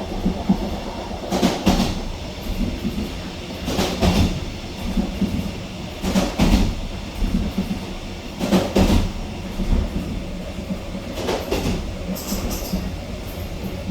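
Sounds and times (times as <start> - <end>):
low train rumble: 0.0 - 13.9
train wheels clattering over joints: 0.0 - 13.9.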